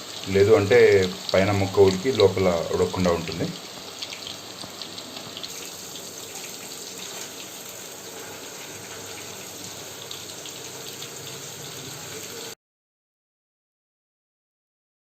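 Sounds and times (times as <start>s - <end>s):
chicken deep-frying in oil: 0.0s - 12.6s.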